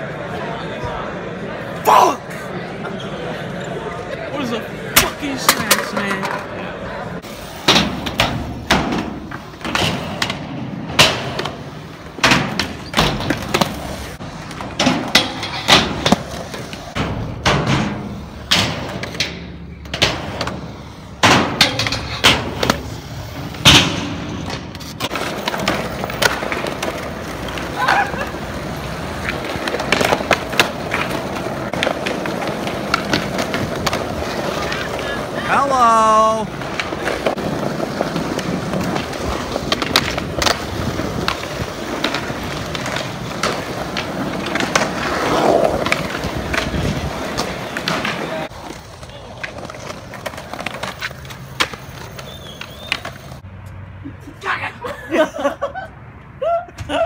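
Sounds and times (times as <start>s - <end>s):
skateboard wheels rolling: 0.0s - 54.0s
skateboards popping and landing: 4.8s - 53.4s.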